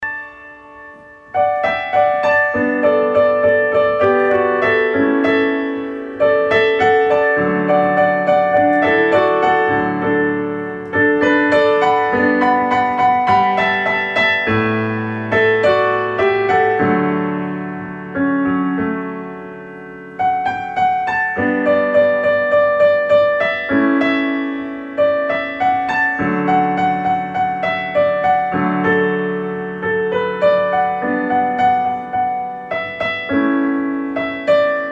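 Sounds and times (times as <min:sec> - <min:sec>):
calm piano music: 0:00.0 - 0:34.9.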